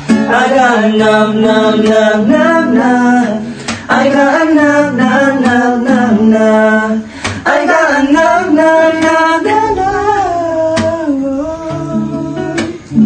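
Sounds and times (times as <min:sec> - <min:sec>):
acoustic guitar strums: 0:00.0 - 0:13.0.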